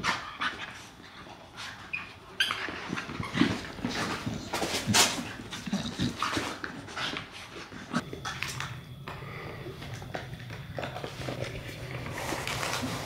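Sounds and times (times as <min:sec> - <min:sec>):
dogs scuffling: 0:00.0 - 0:08.7, 0:09.8 - 0:13.0.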